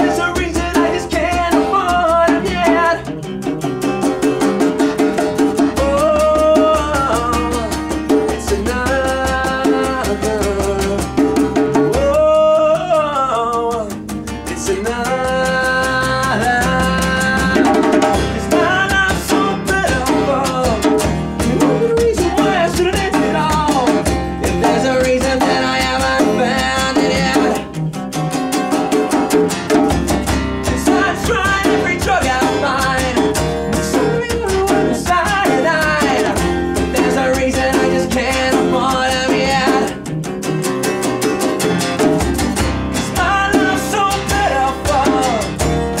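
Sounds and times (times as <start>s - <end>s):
rock band playing: 0.0s - 12.3s, 13.4s - 46.0s
acoustic guitar: 0.0s - 46.0s.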